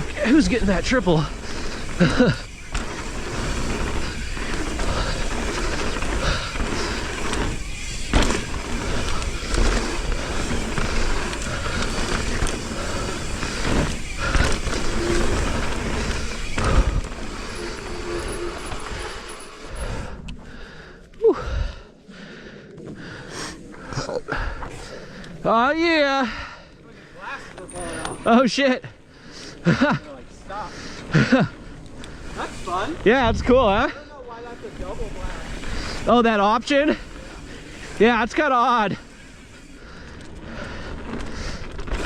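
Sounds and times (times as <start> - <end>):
wind and tyre noise: 0.0 - 42.0.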